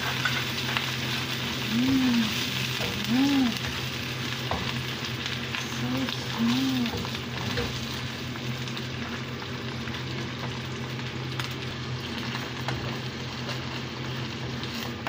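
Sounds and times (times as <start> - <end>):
food sizzling in a frying pan: 0.0 - 15.0
steady low hum: 0.1 - 14.8.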